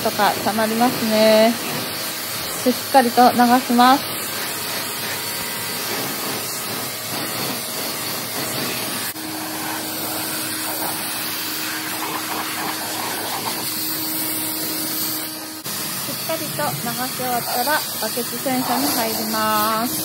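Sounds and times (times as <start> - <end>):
water spray hissing: 0.0 - 20.0.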